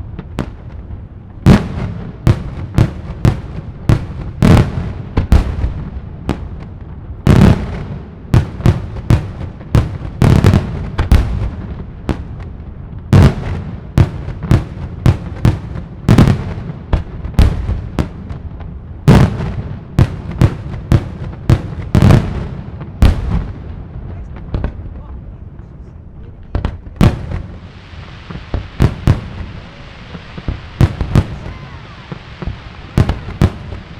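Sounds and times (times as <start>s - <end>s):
fireworks bursting with loud bangs: 0.0s - 25.8s, 26.4s - 33.9s.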